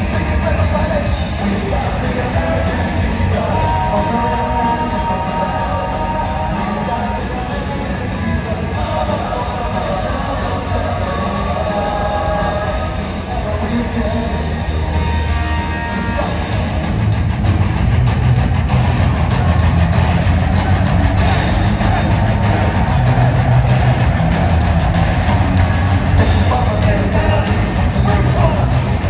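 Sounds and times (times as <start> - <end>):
punk rock band playing live: 0.0 - 29.0.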